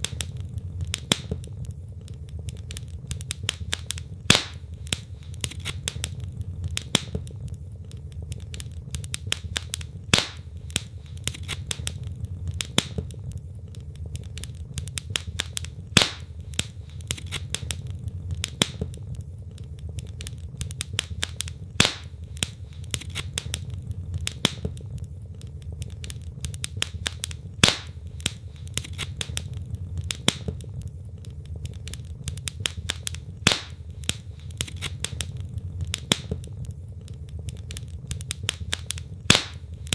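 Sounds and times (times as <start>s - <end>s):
logs crackling in fireplace: 0.0s - 39.9s
low rumble of fire: 0.0s - 39.9s
sharp pop of burning wood: 0.0s - 39.9s.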